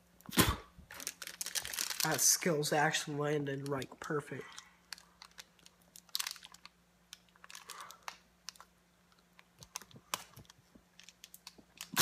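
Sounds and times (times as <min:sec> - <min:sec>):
faint steady hum: 0:00.0 - 0:12.0
plastic crinkling and clicking: 0:00.9 - 0:02.5, 0:03.5 - 0:12.0.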